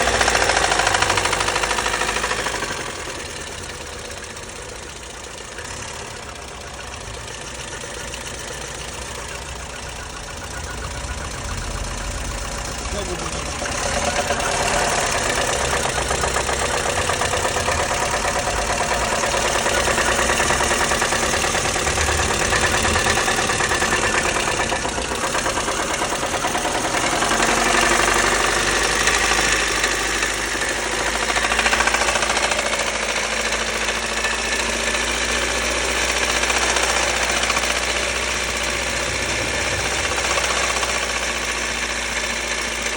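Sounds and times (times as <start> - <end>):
car engine knocking: 0.0 - 42.9.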